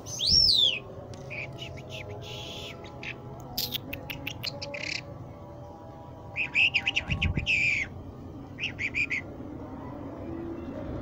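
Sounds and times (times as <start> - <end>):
songbird singing: 0.0 - 9.3.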